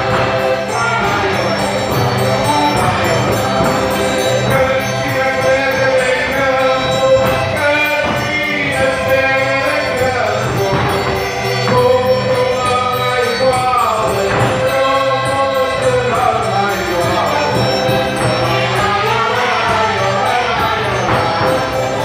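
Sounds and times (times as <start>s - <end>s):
folk band playing: 0.0s - 22.0s
voices singing together: 0.0s - 22.0s.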